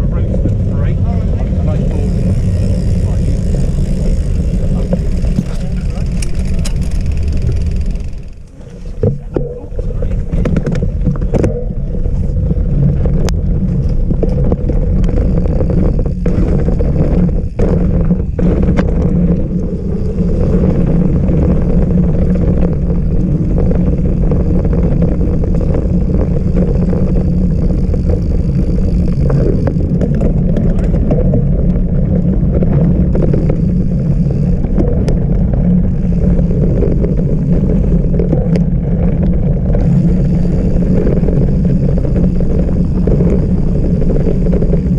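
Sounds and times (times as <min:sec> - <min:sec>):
tyre rumble: 0:00.0 - 0:44.9
wind rush on microphone: 0:00.0 - 0:44.9
bike knocking over rough ground: 0:01.9 - 0:44.9.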